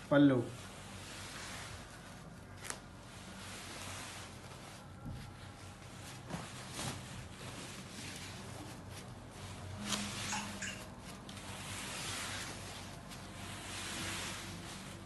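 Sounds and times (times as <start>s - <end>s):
silk fabric rustling: 0.0s - 15.0s.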